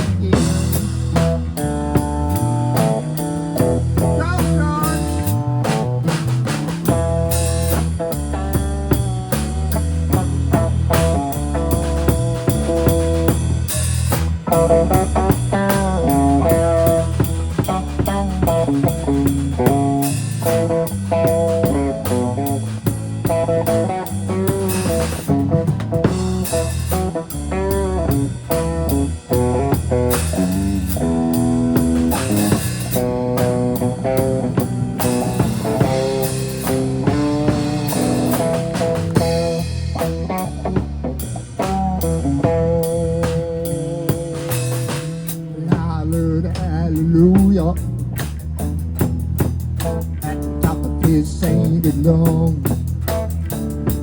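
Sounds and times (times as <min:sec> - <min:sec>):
bass guitar: 0:00.0 - 0:54.0
drum kit: 0:00.0 - 0:54.0
electric guitar lead: 0:00.0 - 0:54.0.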